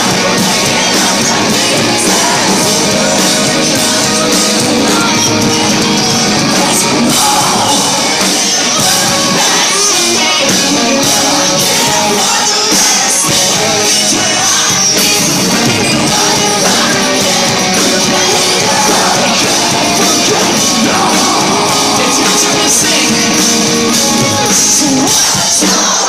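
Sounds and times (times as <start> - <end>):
drums: 0.0 - 26.0
electric guitars: 0.0 - 26.0
person singing: 0.0 - 26.0.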